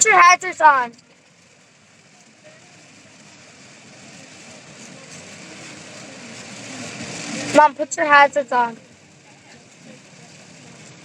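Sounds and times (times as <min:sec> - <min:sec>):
rain on a car: 0:00.0 - 0:11.0
wet road noise: 0:00.0 - 0:11.0.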